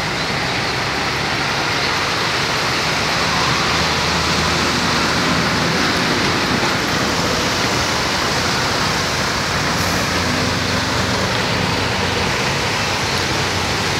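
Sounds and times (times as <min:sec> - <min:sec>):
heavy rain hissing: 0:00.0 - 0:13.9
vehicles driving through floodwater: 0:00.0 - 0:13.9.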